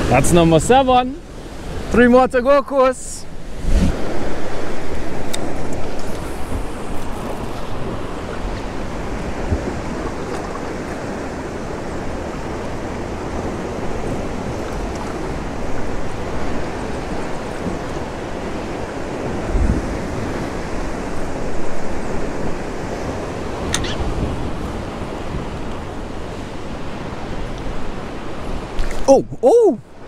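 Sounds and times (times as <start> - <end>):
sea water washing: 0.0 - 30.0
wind buffeting microphone: 3.2 - 30.0.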